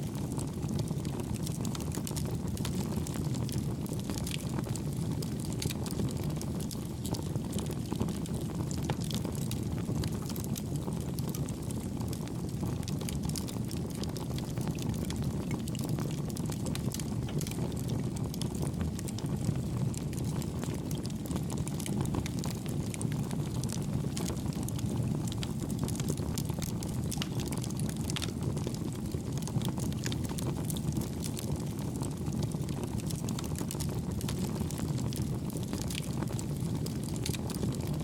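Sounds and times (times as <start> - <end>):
campfire flames rushing: 0.1 - 38.0
fire crackling: 0.1 - 38.0.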